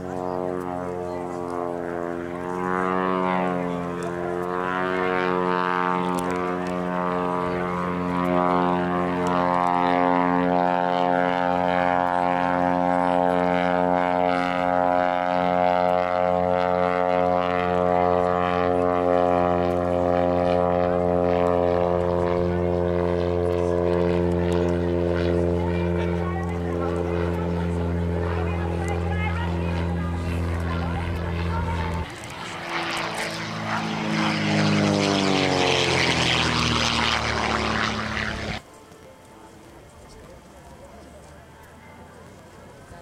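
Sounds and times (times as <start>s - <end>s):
biplane engine droning: 0.0s - 43.0s.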